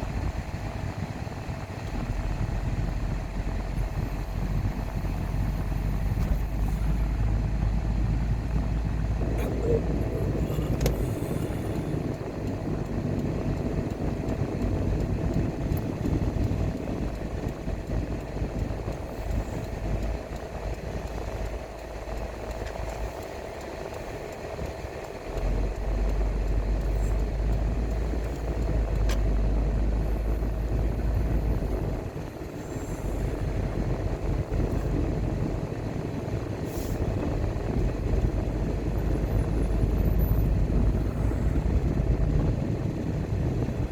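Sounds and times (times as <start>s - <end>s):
car engine and tyre rumble: 0.0s - 43.9s.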